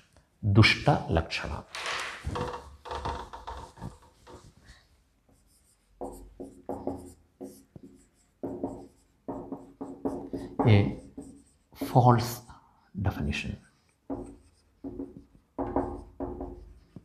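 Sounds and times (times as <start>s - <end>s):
hand rubbing a whiteboard: 2.2s - 12.5s, 13.6s - 17.0s.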